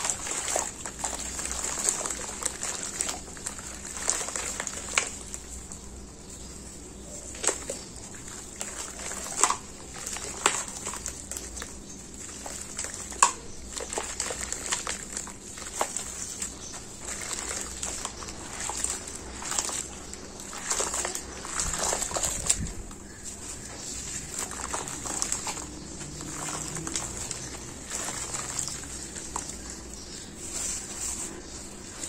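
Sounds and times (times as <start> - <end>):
dry cement crumbling: 0.0 - 32.0
hands squelching wet cement: 0.0 - 32.0.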